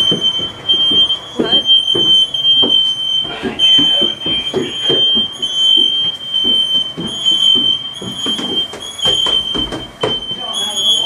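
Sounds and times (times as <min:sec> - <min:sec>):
smoke alarms sounding: 0:00.0 - 0:11.0.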